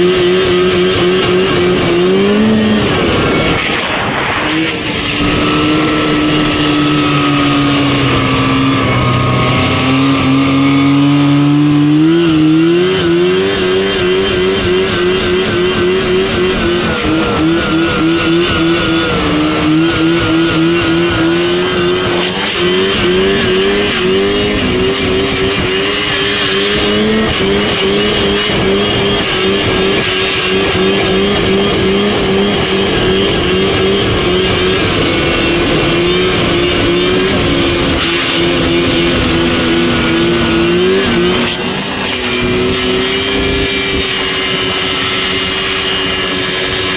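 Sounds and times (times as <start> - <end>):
snowmobile engine revving: 0.0 - 46.9.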